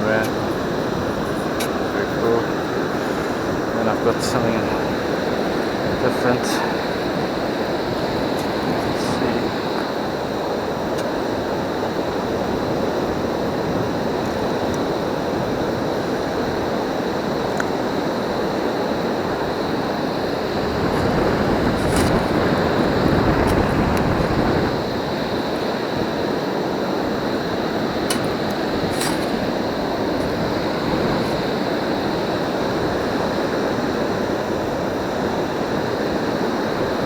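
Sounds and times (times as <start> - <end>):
sea surf washing on beach: 0.0 - 37.0.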